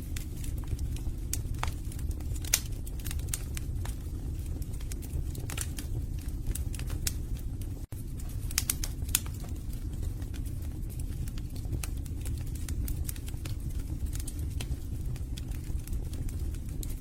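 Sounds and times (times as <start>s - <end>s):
burning logs crackling and popping: 0.0s - 17.0s
fire flames rumbling: 0.0s - 17.0s.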